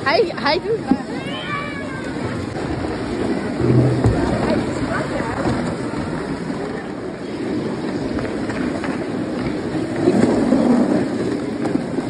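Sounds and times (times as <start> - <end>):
skate blades scraping ice: 0.2 - 12.0.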